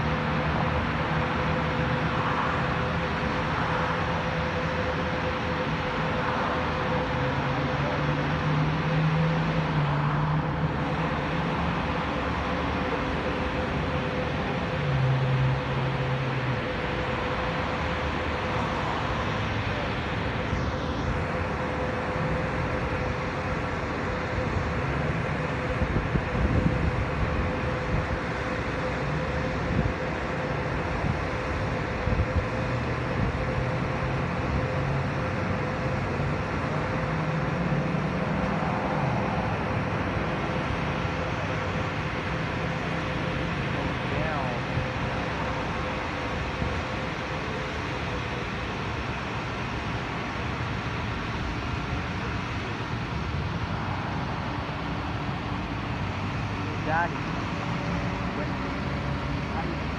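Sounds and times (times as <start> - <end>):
low engine drone: 0.0 - 59.9
road traffic hum: 0.0 - 59.9.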